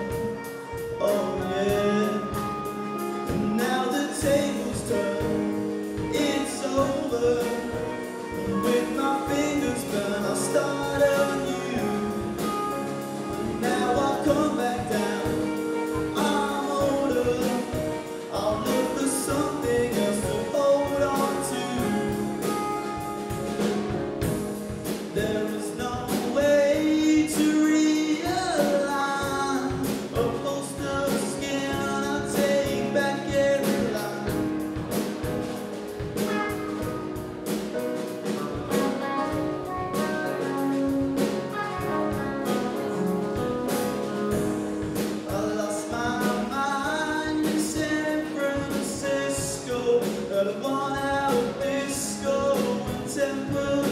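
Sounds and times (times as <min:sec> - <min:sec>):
man singing: 0:00.0 - 0:24.0, 0:25.0 - 0:35.3, 0:38.3 - 0:53.9
drum kit beat: 0:00.0 - 0:53.9
guitar: 0:00.0 - 0:53.9
piano: 0:00.0 - 0:53.9.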